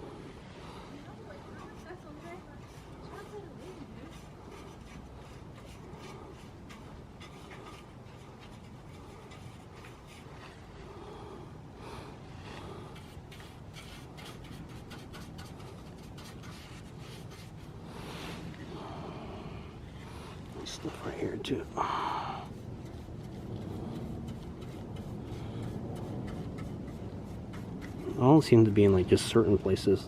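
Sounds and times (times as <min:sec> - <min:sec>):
brush scrubbing metal: 0:01.0 - 0:11.1, 0:12.5 - 0:18.0, 0:20.6 - 0:21.8, 0:22.4 - 0:29.8.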